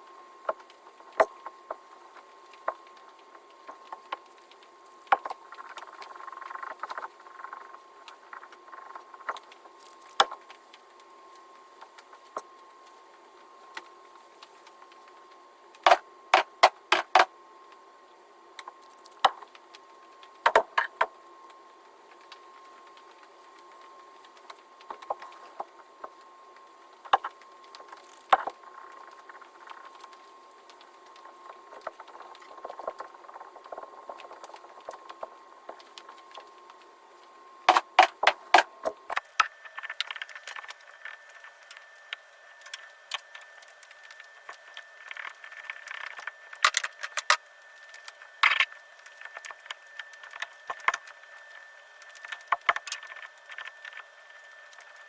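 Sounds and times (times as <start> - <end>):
faint high hum: 0.0 - 55.0.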